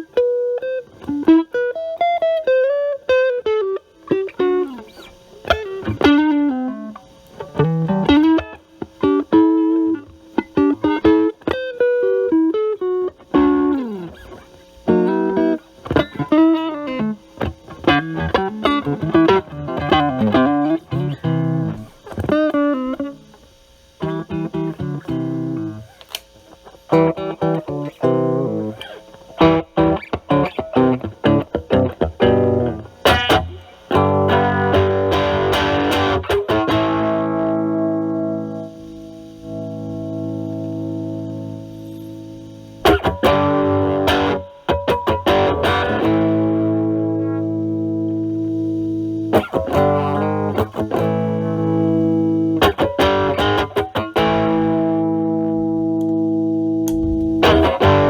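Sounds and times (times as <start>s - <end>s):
overdriven electric guitar: 0.0s - 58.0s.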